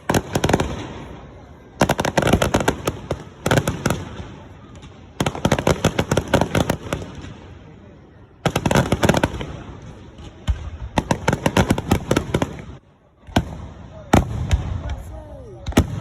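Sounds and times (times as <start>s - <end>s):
fireworks crackling bangs: 0.0s - 16.0s.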